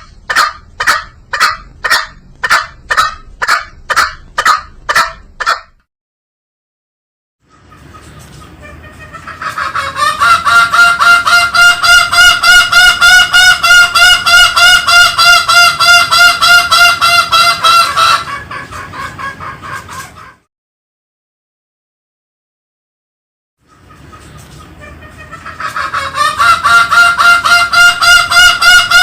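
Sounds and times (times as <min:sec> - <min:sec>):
junglefowl honking calls: 0:00.0 - 0:05.8, 0:07.6 - 0:20.4, 0:23.7 - 0:29.0.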